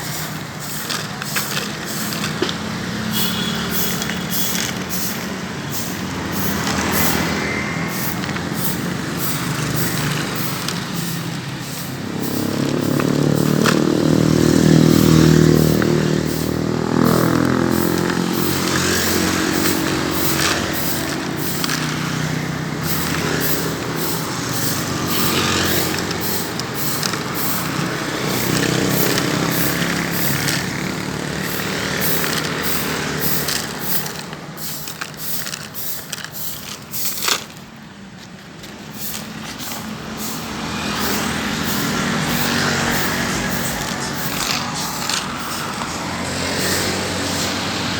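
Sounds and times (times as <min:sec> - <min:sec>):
brooms sweeping sand: 0:00.0 - 0:37.7, 0:38.7 - 0:47.9
heavy engine close by: 0:00.0 - 0:47.9
road traffic passing: 0:00.0 - 0:47.9.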